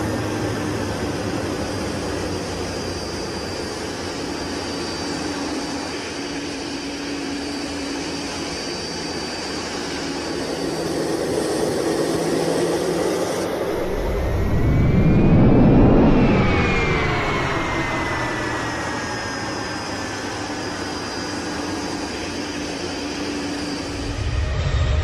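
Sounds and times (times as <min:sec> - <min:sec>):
airliner jet engines whining: 0:00.0 - 0:25.0.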